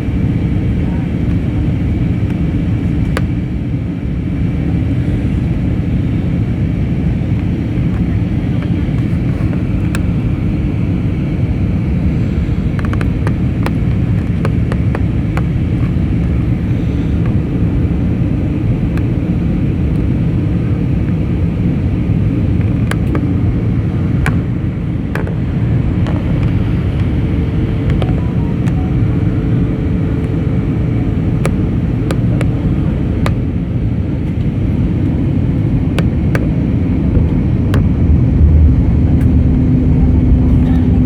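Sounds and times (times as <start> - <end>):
airplane cabin engine rumble: 0.0 - 41.0.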